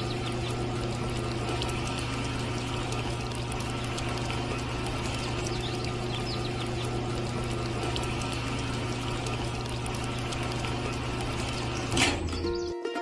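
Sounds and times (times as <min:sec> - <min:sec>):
cement mix sloshing and rattling: 0:00.0 - 0:12.5
small electric motor humming: 0:00.0 - 0:12.7.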